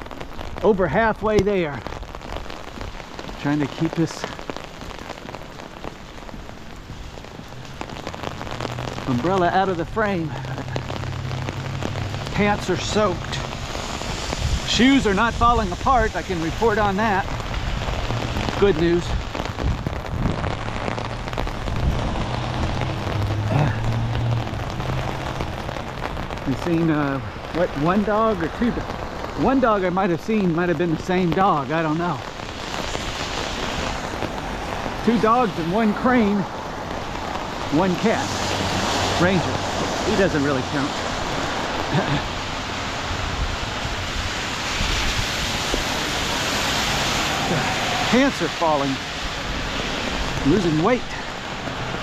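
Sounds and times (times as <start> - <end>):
rain drumming on an umbrella: 0.0 - 52.0.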